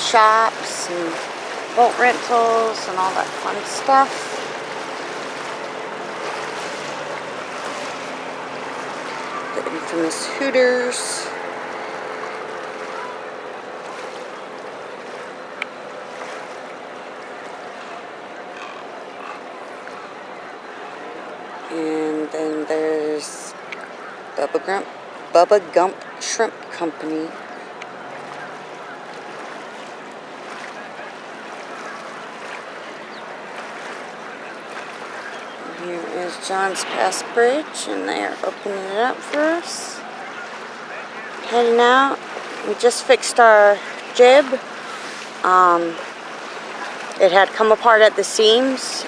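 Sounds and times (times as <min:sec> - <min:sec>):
faint engine hum: 0:00.0 - 0:48.2
water wash around boat: 0:00.0 - 0:49.0
wind: 0:00.0 - 0:49.0.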